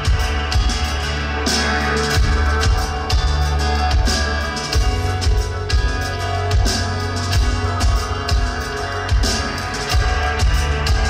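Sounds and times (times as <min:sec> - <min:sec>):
bass notes: 0:00.0 - 0:11.0
drum kit beating: 0:00.0 - 0:11.0.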